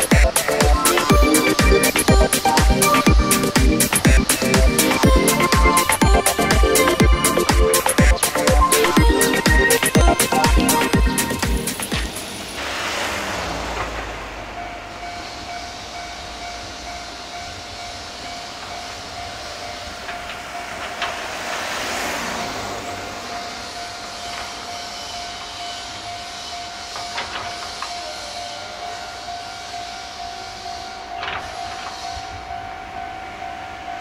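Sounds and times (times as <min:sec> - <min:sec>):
level crossing warning alarm: 0:00.0 - 0:12.2, 0:14.4 - 0:34.0
traffic and rail noise: 0:00.0 - 0:34.0.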